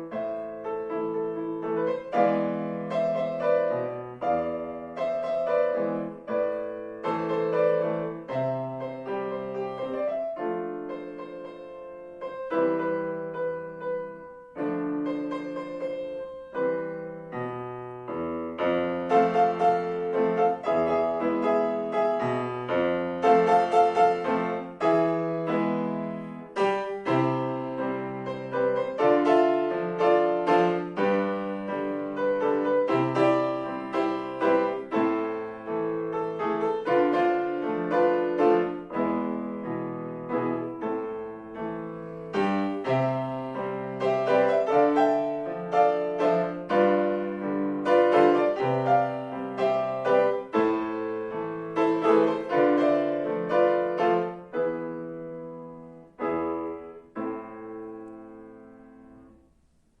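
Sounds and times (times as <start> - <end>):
solo piano melody: 0.0 - 60.0.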